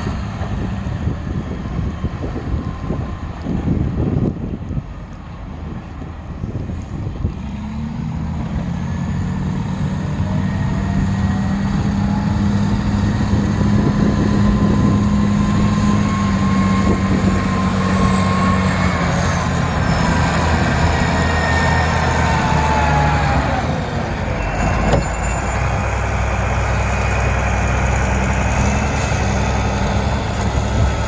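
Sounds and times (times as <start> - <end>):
diesel engine working hard: 0.0 - 31.0
rising engine whine: 5.8 - 31.0.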